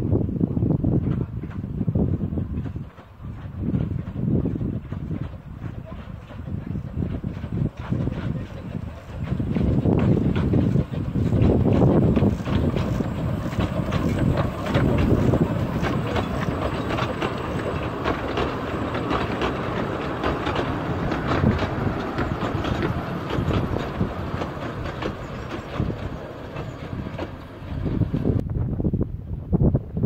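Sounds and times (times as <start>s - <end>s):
train wheels clicking over rail joints: 0.8s - 28.5s.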